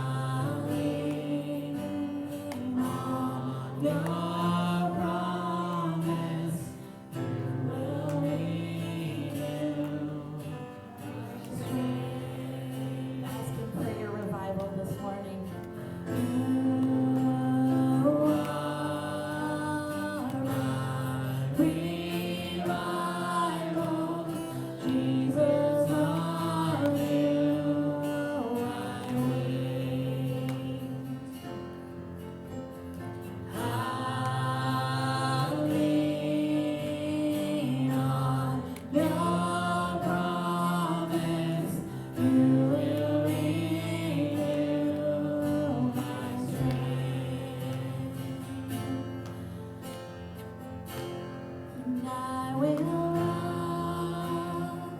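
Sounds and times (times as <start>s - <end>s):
congregation singing gospel: 0.0s - 54.9s
guitar accompaniment: 0.0s - 54.9s.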